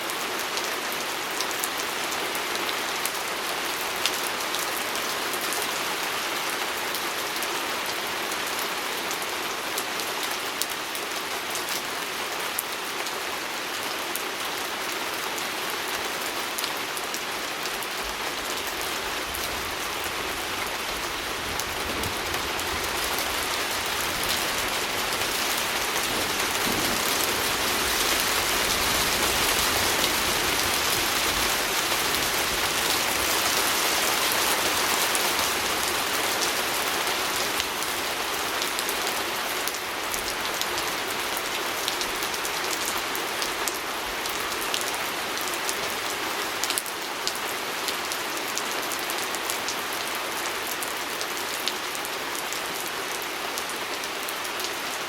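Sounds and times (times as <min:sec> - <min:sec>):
rain pattering on a window: 0:00.1 - 0:49.8.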